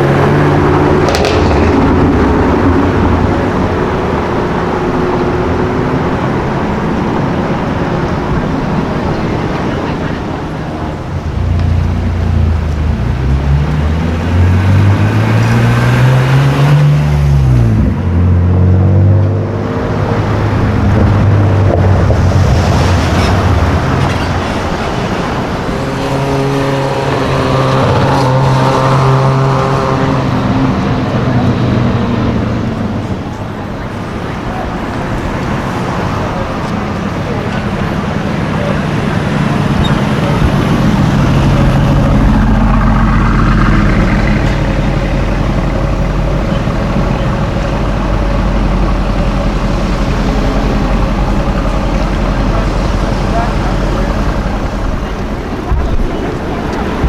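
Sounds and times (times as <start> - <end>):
sports car engine revving: 0.0 - 57.0
traffic noise: 0.0 - 57.0.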